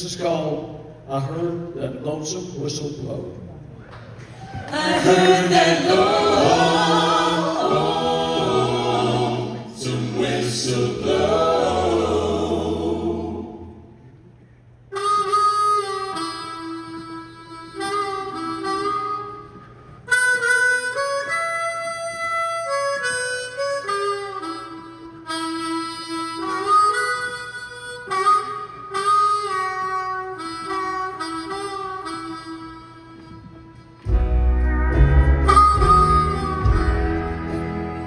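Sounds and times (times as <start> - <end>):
harmonica playing chords: 4.7 - 14.1, 14.7 - 38.0.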